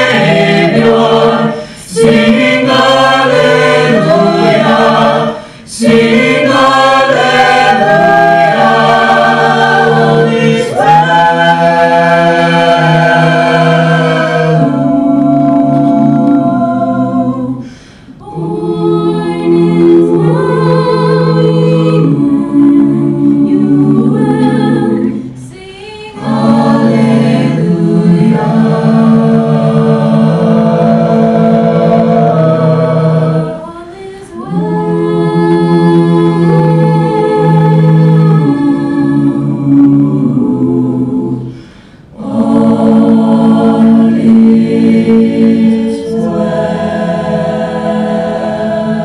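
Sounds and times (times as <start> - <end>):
a cappella group singing harmony: 0.0 - 49.0.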